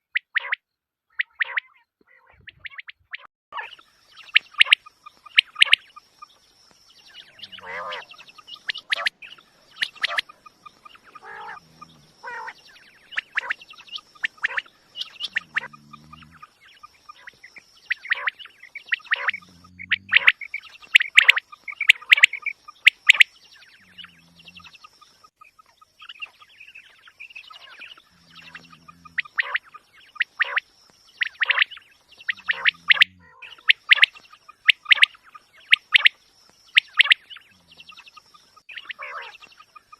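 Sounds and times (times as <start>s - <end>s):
quail calling: 0.1s - 5.9s, 7.1s - 24.7s, 27.4s - 30.6s, 31.2s - 39.9s.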